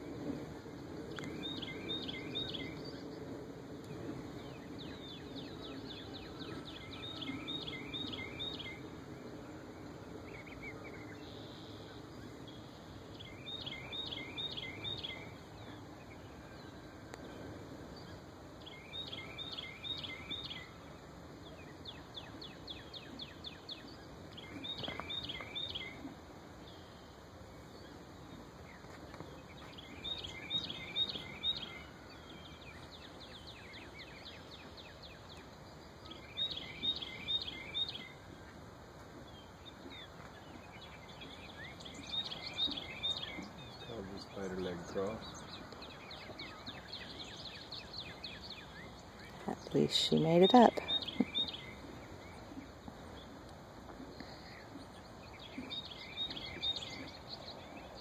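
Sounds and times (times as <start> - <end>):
outdoor background hum: 0.0 - 58.0
songbird singing: 0.0 - 58.0.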